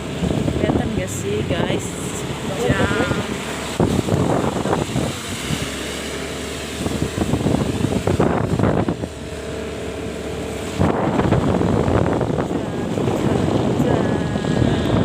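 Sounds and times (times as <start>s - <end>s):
motorbike running: 0.0s - 15.0s
wind buffeting the microphone: 0.0s - 15.0s.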